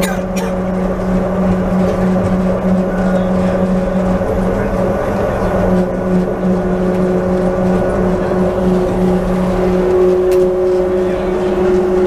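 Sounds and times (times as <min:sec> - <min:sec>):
train car rumbling along: 0:00.0 - 0:12.0.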